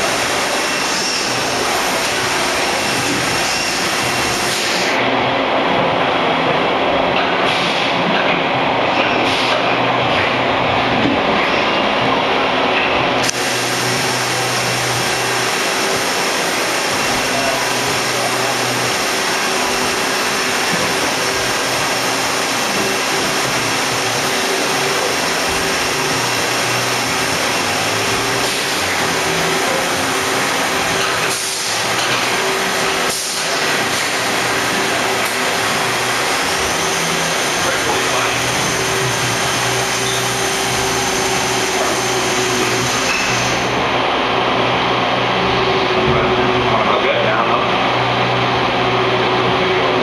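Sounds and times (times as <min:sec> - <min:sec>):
lathe running and cutting: 0:00.0 - 0:50.0.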